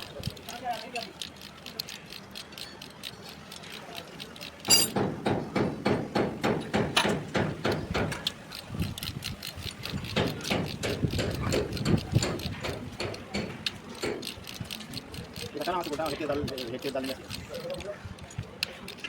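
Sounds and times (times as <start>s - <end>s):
metal hand tool clicking: 0.0s - 17.9s.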